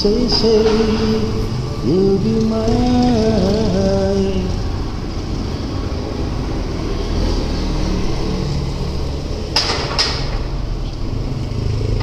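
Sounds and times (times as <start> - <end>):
street background rumble: 0.0 - 12.0.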